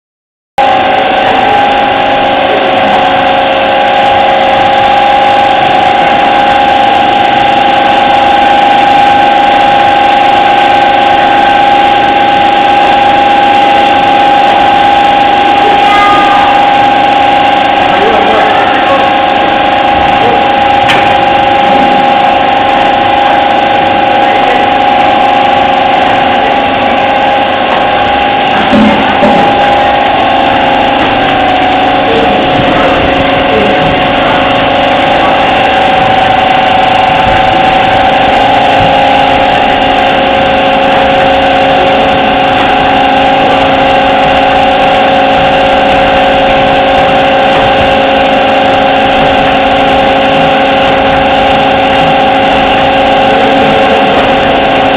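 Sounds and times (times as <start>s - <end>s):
packing machine hum and whine: 0.6s - 54.9s
machine knock: 0.7s - 26.4s, 27.5s - 54.9s.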